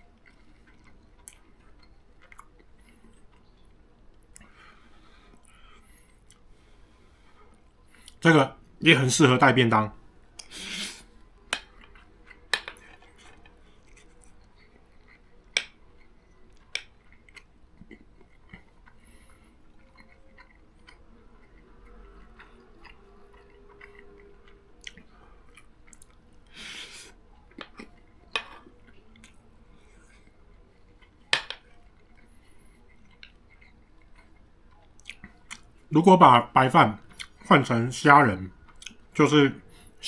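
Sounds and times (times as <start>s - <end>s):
person chewing: 0.0s - 8.2s, 10.4s - 35.9s, 37.0s - 37.5s, 38.5s - 40.0s.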